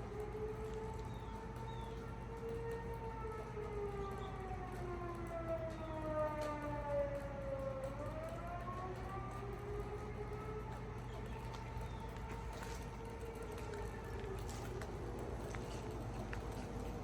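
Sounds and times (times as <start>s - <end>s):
tornado siren wailing: 0.0s - 17.0s.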